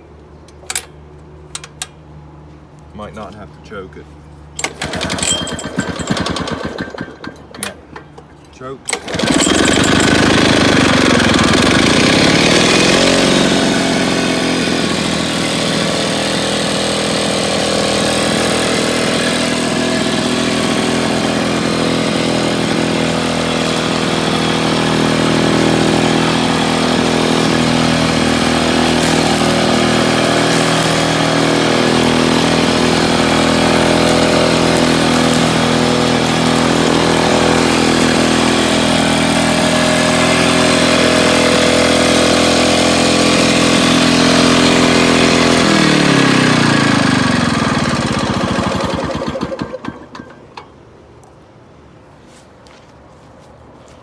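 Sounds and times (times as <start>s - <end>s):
lawnmower engine running: 4.5s - 50.8s.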